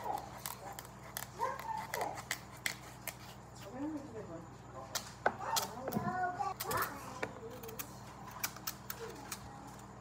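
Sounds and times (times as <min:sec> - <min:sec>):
knife cutting pumpkin rind: 0:00.0 - 0:04.0, 0:04.9 - 0:09.6.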